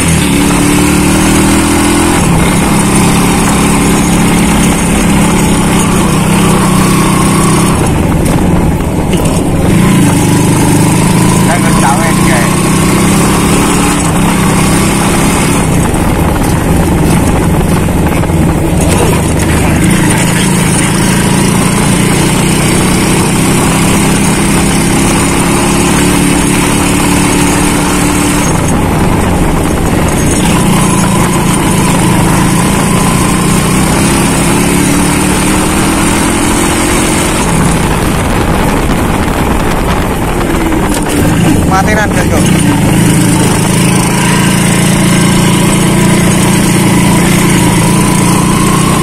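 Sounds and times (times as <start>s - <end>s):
motorcycle engine running: 0.0s - 49.0s
wind and road noise: 0.0s - 49.0s.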